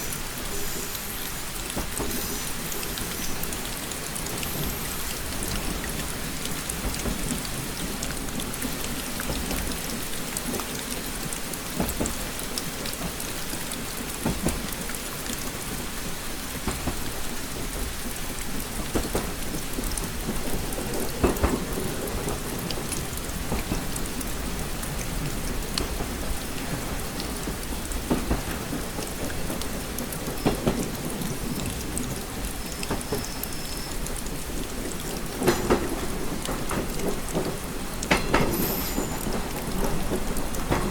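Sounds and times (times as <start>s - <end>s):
rain pattering on a window: 0.0s - 40.9s
raindrops tapping: 0.0s - 40.9s.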